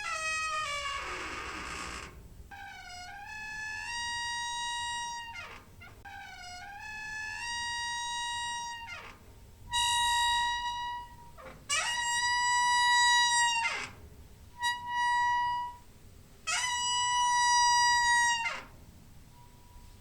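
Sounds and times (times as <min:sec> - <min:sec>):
door hinge squeaking: 0:00.0 - 0:15.9, 0:16.5 - 0:18.8.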